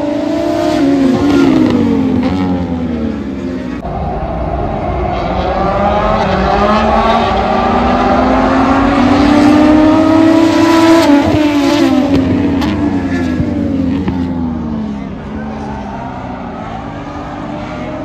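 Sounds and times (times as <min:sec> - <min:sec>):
racing motorcycle passing: 0:00.0 - 0:18.0.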